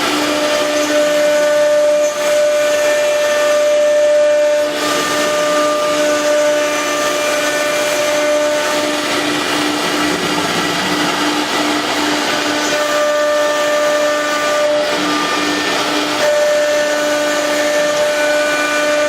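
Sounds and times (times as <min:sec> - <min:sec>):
cnc router machine whine: 0:00.0 - 0:19.0.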